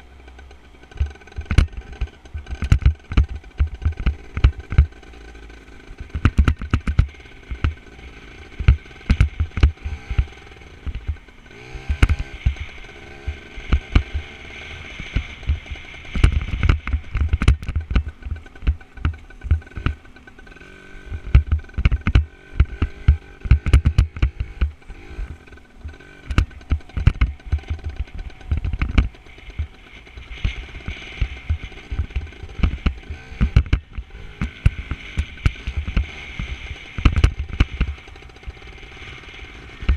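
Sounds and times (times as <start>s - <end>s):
dirt bike engine running: 0.0s - 39.9s
sharp knocks and thumps: 0.9s - 4.9s, 6.1s - 7.8s, 8.5s - 14.3s, 15.0s - 20.0s, 21.1s - 37.9s.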